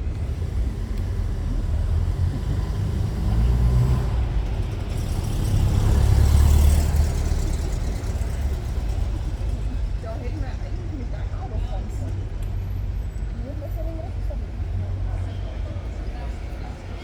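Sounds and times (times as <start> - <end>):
car engines rumbling past: 0.0 - 17.0.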